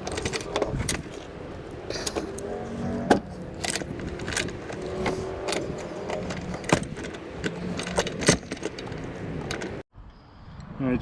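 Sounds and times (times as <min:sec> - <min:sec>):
metal hardware clinking: 0:00.0 - 0:09.8.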